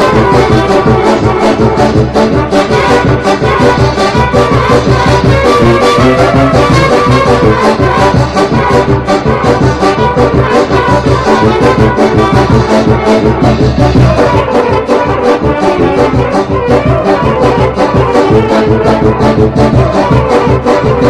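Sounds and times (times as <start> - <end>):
brass band music: 0.0 - 21.0
trumpets and trombones playing: 0.0 - 21.0.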